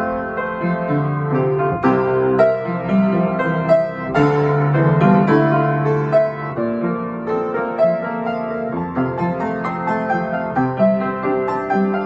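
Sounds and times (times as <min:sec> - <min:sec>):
upright piano playing: 0:00.0 - 0:12.0.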